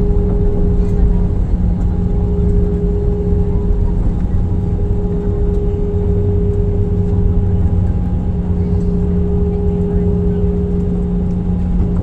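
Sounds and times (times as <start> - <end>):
jet cabin engine drone: 0.0 - 12.0.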